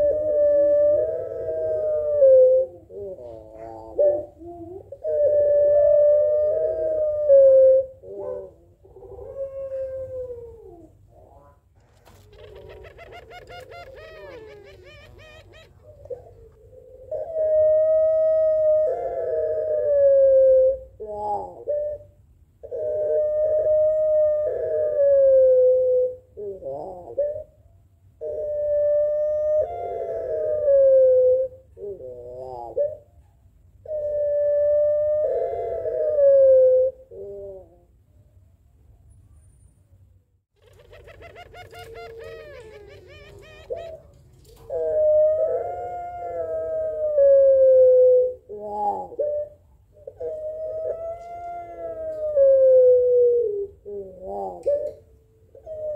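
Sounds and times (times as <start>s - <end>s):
dove cooing: 0.0s - 33.2s, 33.8s - 38.0s, 40.6s - 55.9s.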